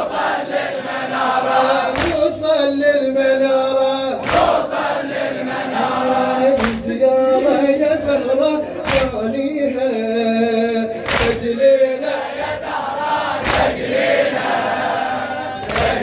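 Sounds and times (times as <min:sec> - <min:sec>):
men chanting in chorus: 0:00.0 - 0:16.0.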